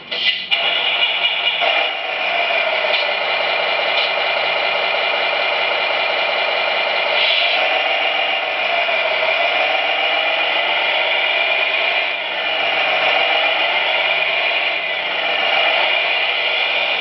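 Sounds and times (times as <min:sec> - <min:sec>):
simulated diesel engine through speaker: 0:00.0 - 0:17.0.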